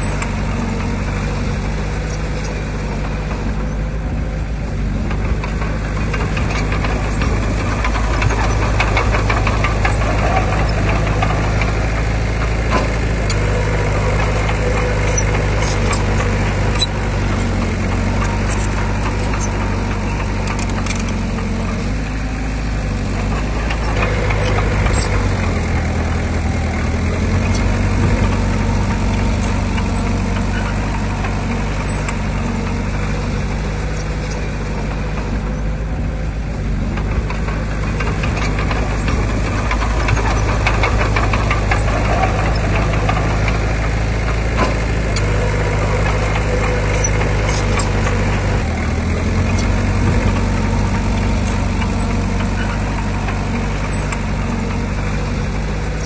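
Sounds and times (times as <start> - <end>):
heavy diesel engine running: 0.0 - 56.0
faint rattles and clicks: 5.1 - 56.0.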